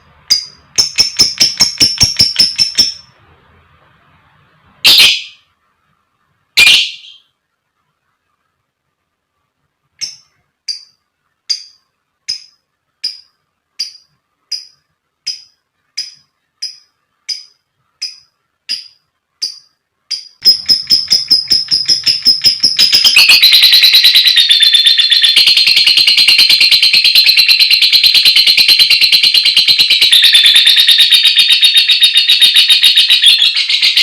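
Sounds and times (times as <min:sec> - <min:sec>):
lovebird chirping and chattering: 0:00.0 - 0:03.1, 0:04.9 - 0:05.4, 0:06.6 - 0:07.3, 0:10.0 - 0:34.0.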